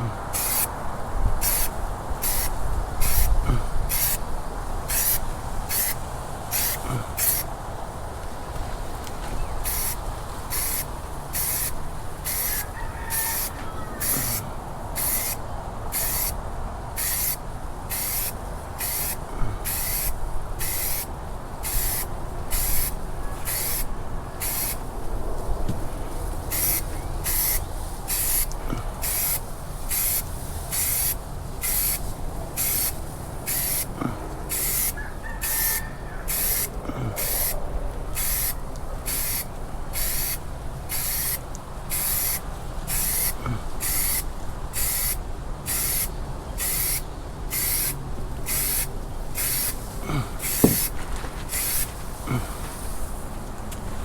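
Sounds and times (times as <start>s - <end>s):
paint sprayer hissing bursts: 0.0s - 0.8s, 1.4s - 7.5s, 9.6s - 14.4s, 15.0s - 16.4s, 17.0s - 24.8s, 26.4s - 37.6s, 38.2s - 52.0s.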